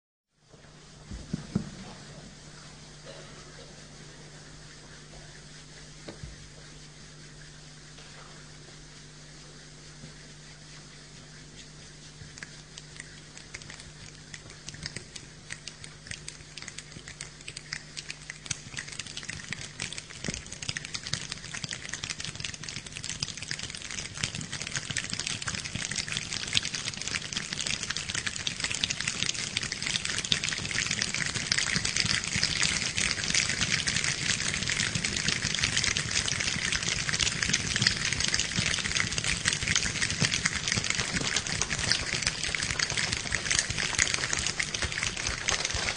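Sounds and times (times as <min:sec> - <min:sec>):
choir making rain sounds with hands: 0:03.9 - 0:45.9.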